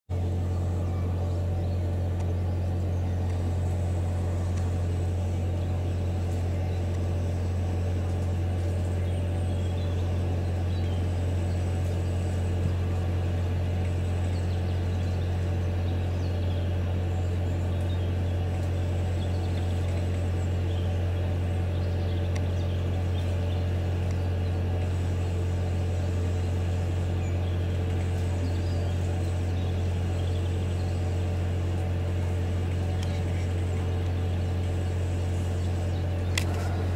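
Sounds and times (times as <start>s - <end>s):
low engine drone: 0.1s - 36.9s.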